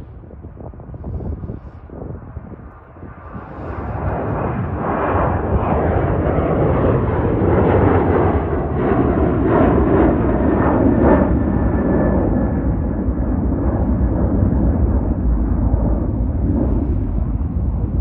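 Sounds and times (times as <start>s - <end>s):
jet engines roaring at takeoff: 0.0s - 18.0s.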